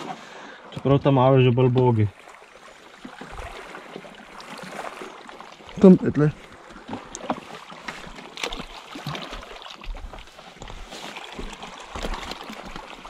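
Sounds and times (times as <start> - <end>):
waves lapping on rocky shore: 0.0 - 1.2, 1.9 - 13.0.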